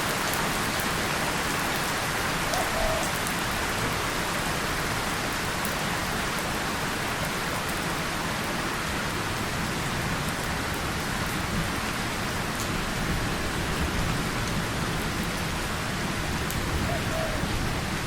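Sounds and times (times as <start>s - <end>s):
rain on tin and leaves: 0.0s - 18.0s.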